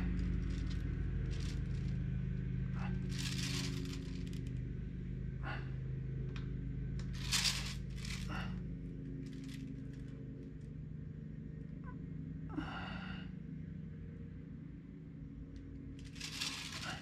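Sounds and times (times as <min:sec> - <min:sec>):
distant lawnmower engines: 0:00.0 - 0:17.0.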